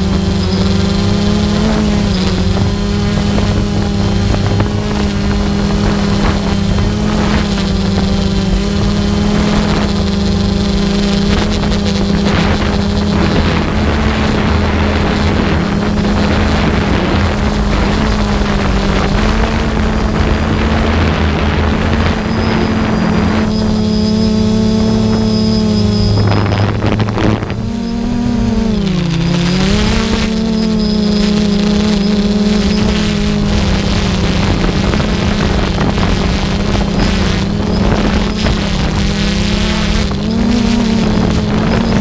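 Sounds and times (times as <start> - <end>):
aircraft engine droning: 0.0 - 42.0
wind noise on microphone: 0.0 - 42.0.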